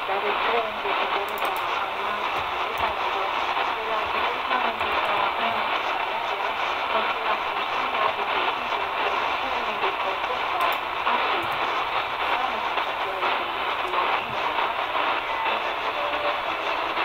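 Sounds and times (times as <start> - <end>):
radio hiss and static: 0.0 - 17.0
weak distant radio broadcast: 0.0 - 17.0.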